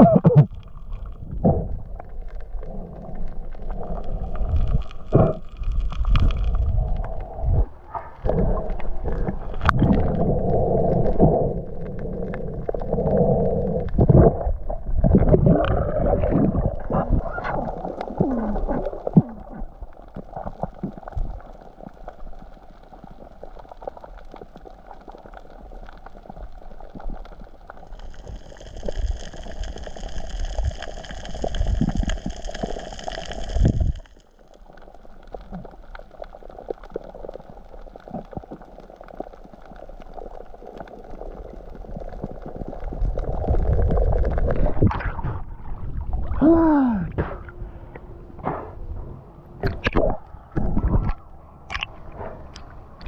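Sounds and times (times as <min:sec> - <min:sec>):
water bubbling and gurgling: 0:00.0 - 0:53.0.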